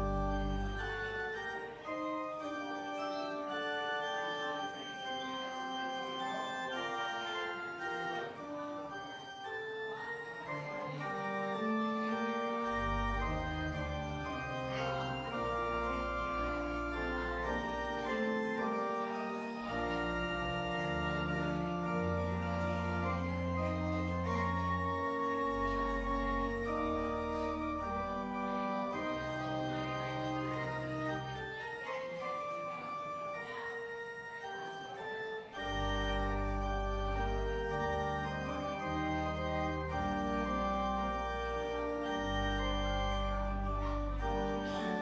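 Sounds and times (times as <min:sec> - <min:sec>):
church organ chords: 0:00.0 - 0:45.0
deep organ pedal bass: 0:00.0 - 0:45.0.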